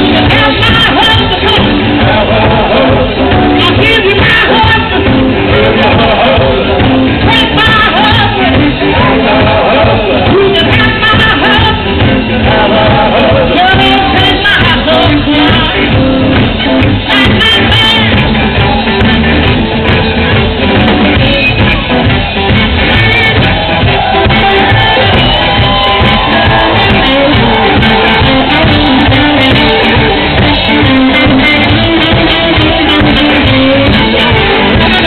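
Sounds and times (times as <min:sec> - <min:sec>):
woman singing: 0:00.0 - 0:19.6, 0:22.8 - 0:35.0
blues band playing: 0:00.0 - 0:35.0.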